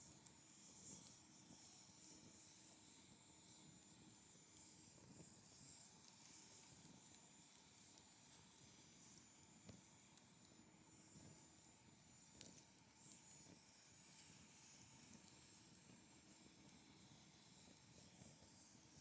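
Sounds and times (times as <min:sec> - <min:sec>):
wood fire hissing and crackling: 0:00.0 - 0:19.0.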